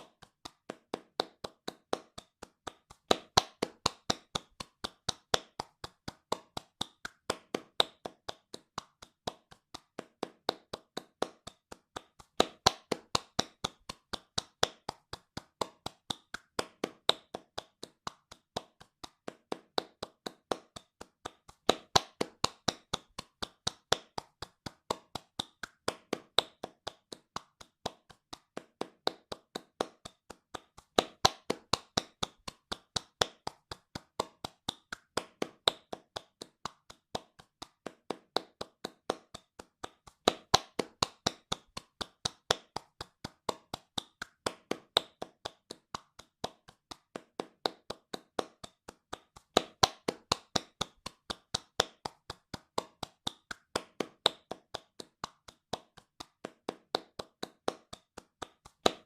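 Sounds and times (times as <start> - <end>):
hands clapping fast: 0.0 - 59.0.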